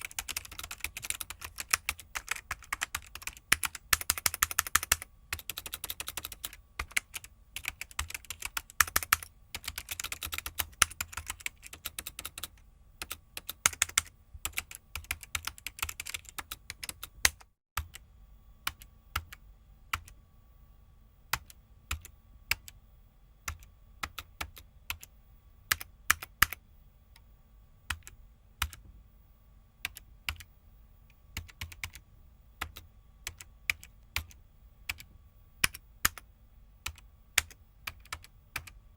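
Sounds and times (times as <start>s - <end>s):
computer keyboard typing: 0.0s - 18.0s, 18.6s - 20.2s, 21.3s - 22.8s, 23.4s - 25.1s, 25.7s - 27.2s, 27.9s - 28.9s, 29.8s - 30.5s, 31.1s - 32.0s, 32.6s - 38.8s
faint steady hum: 0.0s - 38.9s.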